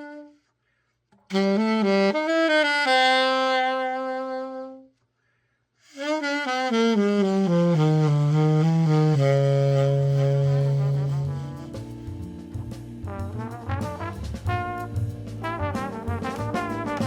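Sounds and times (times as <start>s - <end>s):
saxophone playing a melody: 0.0s - 0.5s, 1.3s - 5.0s, 5.9s - 17.0s.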